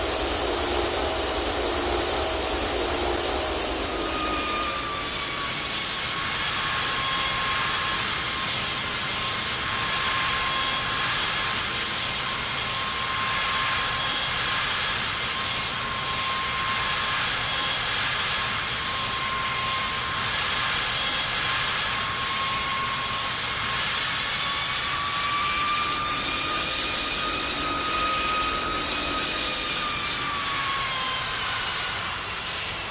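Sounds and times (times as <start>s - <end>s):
airplane engines whining: 0.0s - 32.9s.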